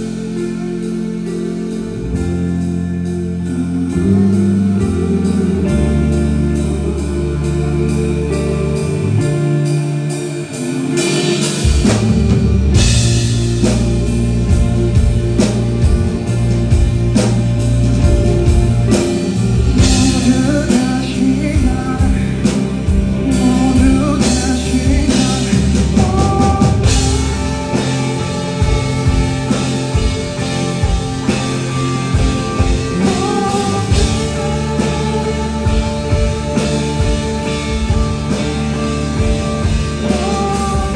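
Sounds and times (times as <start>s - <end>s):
man singing: 0.0s - 13.8s, 18.0s - 40.9s
electric guitar: 0.0s - 40.9s
live rock band: 0.0s - 40.9s.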